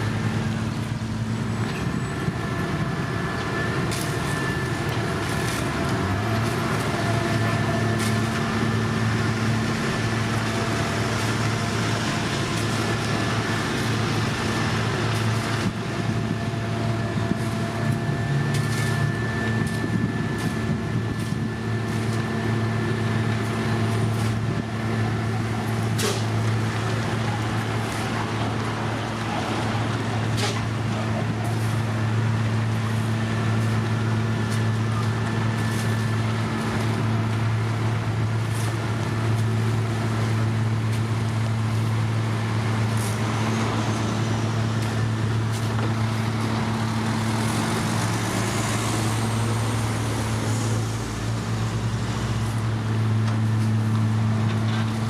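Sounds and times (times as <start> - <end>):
paving machinery engine hum: 0.0 - 55.0.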